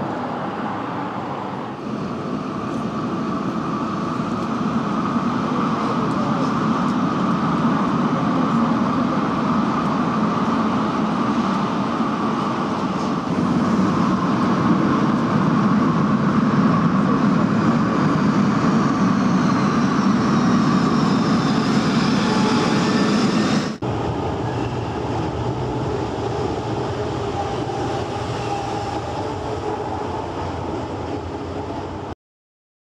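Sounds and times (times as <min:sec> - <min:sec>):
electric train whining: 0:00.0 - 0:32.1
different train sound: 0:00.0 - 0:32.2.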